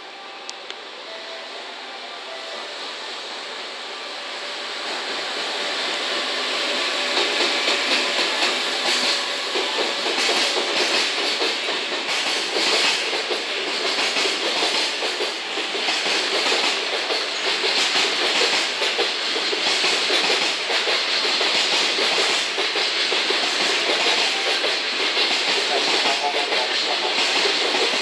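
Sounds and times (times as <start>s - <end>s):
train wheels rolling on rails: 0.0s - 28.0s.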